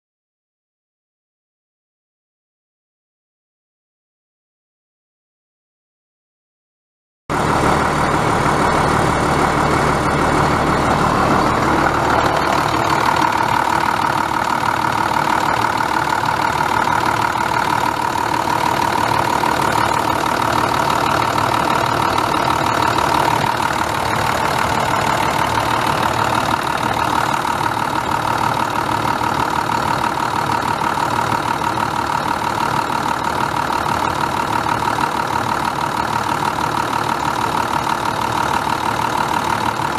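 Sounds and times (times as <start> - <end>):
diesel truck engine idling: 7.3 - 39.9.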